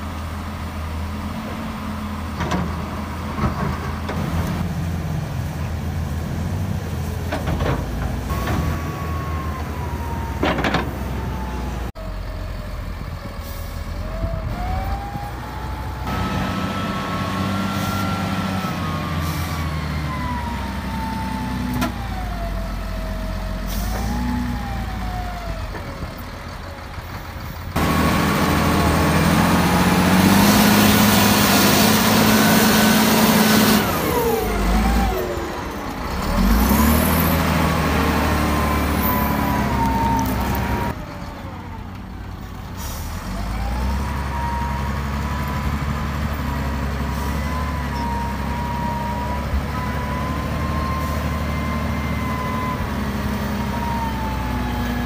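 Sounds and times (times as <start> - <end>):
diesel loader engine revving: 0.0 - 55.0.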